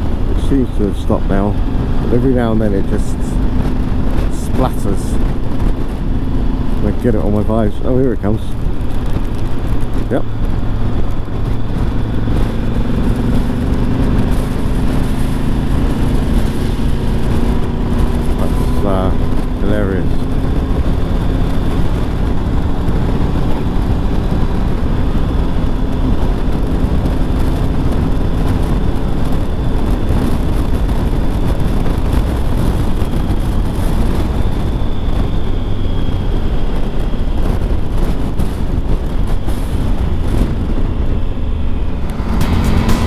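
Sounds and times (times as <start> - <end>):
motorcycle engine droning: 0.0 - 43.0
wind rushing over microphone: 0.0 - 43.0.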